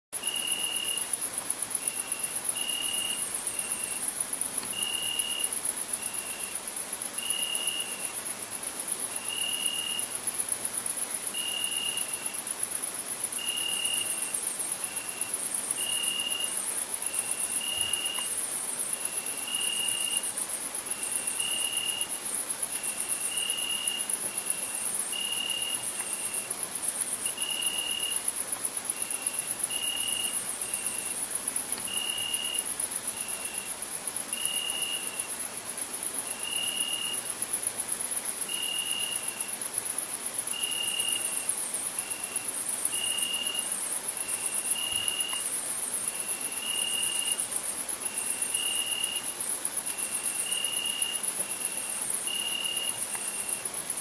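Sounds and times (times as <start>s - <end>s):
crickets chirping: 0.2s - 54.0s.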